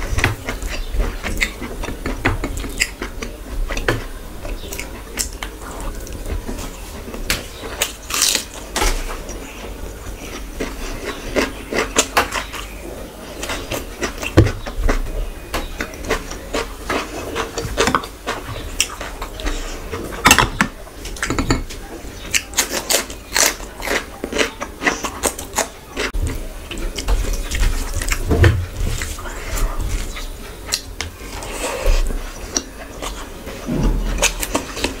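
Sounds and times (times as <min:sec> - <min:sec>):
chewing and mouth sounds: 0:00.0 - 0:35.0
fingers mixing rice on a plate: 0:00.0 - 0:35.0.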